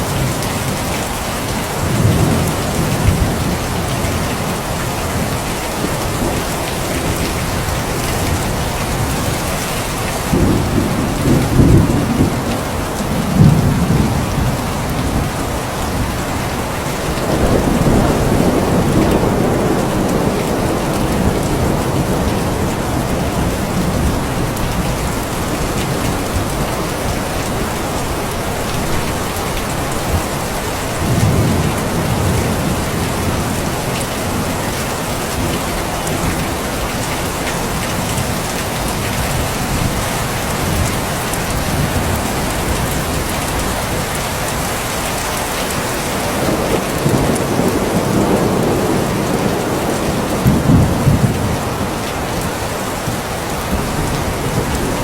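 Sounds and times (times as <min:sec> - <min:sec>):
steady rain: 0:00.0 - 0:55.0
thunder rumbling: 0:00.0 - 0:55.0.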